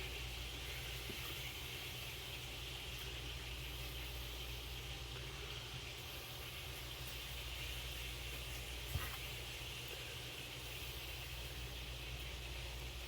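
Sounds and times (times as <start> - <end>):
constant hiss: 0.0 - 13.0
low electrical hum: 0.0 - 13.0.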